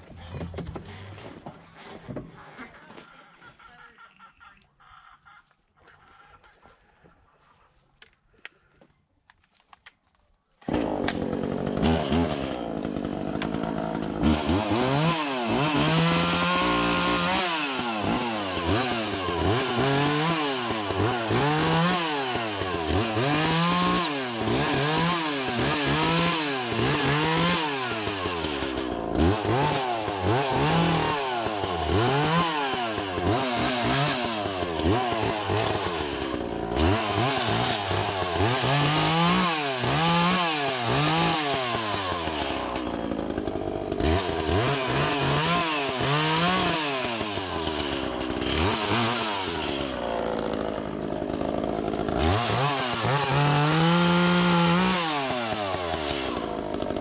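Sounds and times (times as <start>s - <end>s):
chainsaw engine revving: 10.6s - 57.0s.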